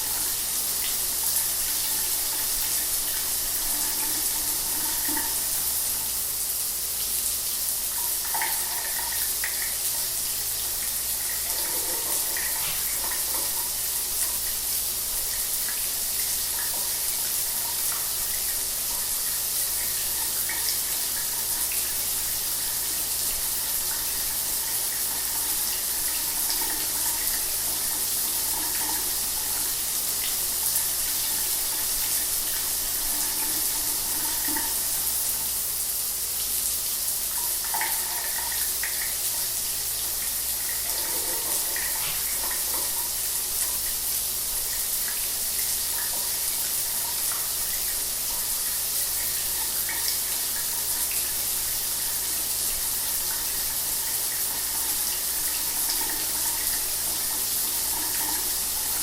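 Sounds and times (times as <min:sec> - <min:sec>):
shower water hissing: 0:00.0 - 0:59.0.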